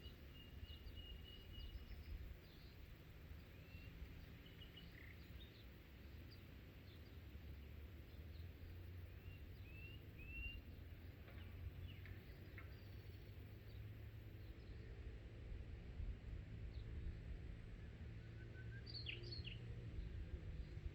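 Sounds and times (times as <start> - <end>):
faint birds chirping: 0.0 - 20.9
low outdoor rumble: 0.0 - 20.9.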